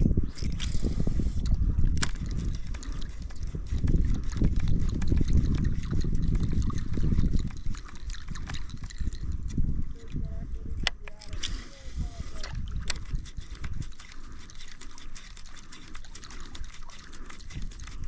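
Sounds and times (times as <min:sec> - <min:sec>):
wind rumble on microphone: 0:00.0 - 0:18.0
water lapping against kayak hull: 0:00.8 - 0:18.0.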